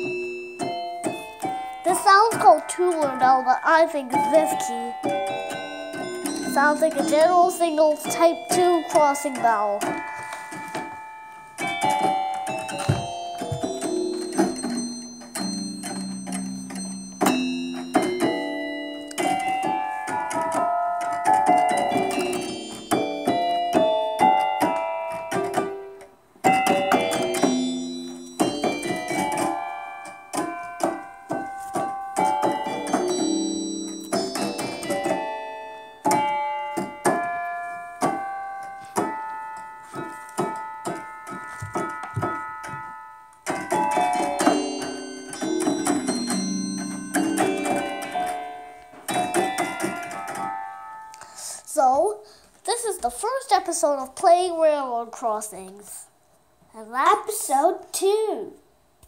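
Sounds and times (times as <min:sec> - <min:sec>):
electronic keyboard bell tones: 0:00.0 - 0:51.6.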